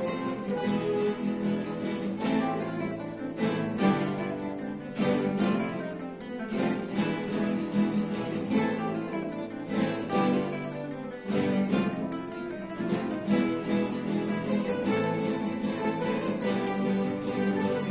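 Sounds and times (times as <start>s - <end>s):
classical guitars playing dance: 0.0s - 17.9s.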